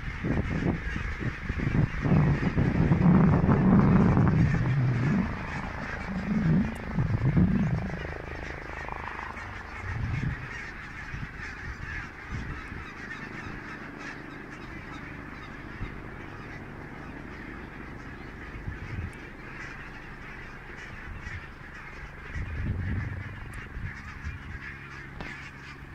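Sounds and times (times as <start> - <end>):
geese honking: 0.0 - 25.9
low rumbles: 0.0 - 25.9.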